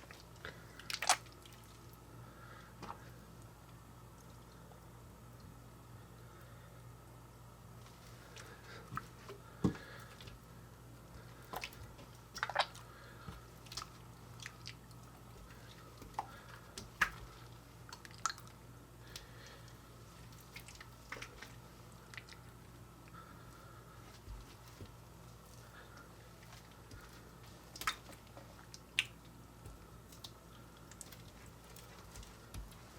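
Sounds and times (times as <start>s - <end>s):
slime squelching: 0.0s - 4.7s, 7.8s - 32.9s
low electrical hum: 0.0s - 32.9s.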